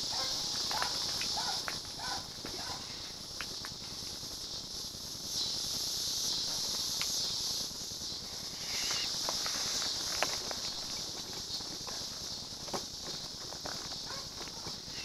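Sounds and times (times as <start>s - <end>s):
insect chorus buzzing: 0.0s - 15.0s.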